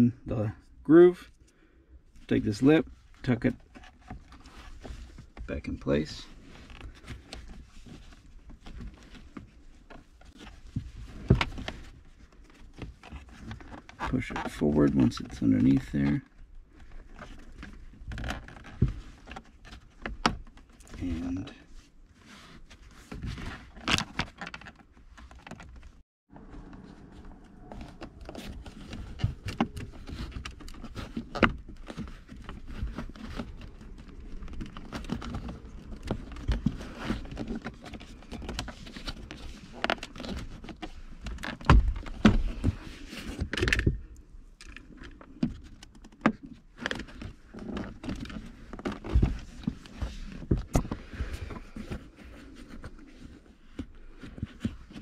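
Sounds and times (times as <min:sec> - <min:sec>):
leather rubbing and crinkling: 0:02.2 - 0:55.0.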